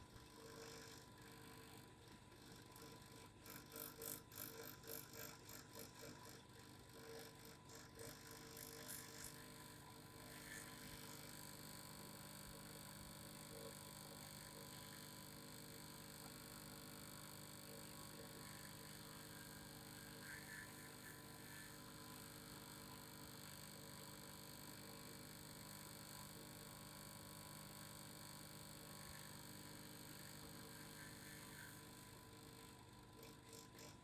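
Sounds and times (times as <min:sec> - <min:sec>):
faint vibrating hum: 0:00.0 - 0:34.0.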